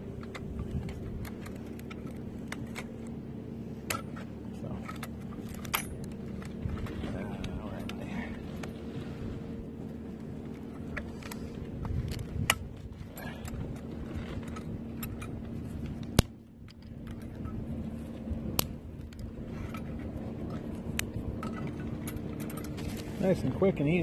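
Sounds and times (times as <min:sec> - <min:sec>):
metal camp stove clicks and clatters: 0:00.0 - 0:03.2, 0:03.8 - 0:08.7, 0:10.5 - 0:17.6, 0:18.5 - 0:24.0
steady low hum: 0:00.0 - 0:24.0.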